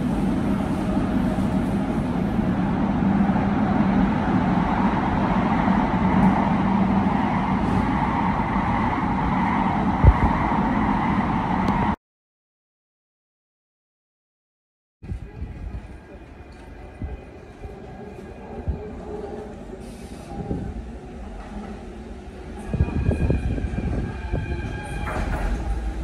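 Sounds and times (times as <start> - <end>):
train cabin rumble and hum: 0.0 - 12.0, 15.0 - 26.0.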